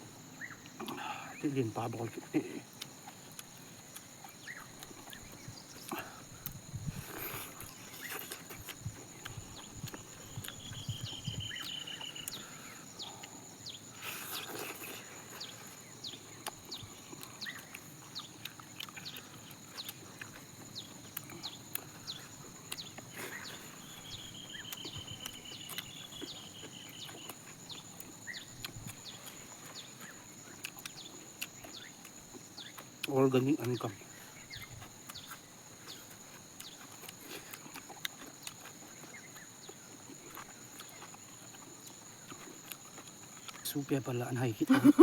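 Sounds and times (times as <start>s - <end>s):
rustle: 0.0s - 45.0s.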